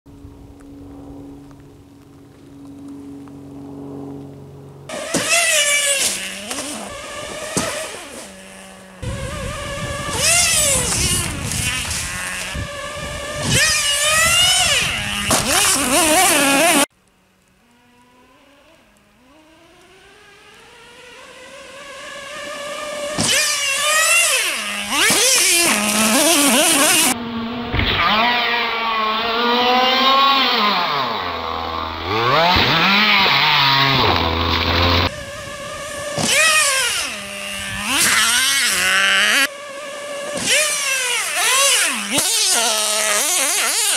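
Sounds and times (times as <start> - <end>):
small nitro engine revving: 3.2 - 43.9.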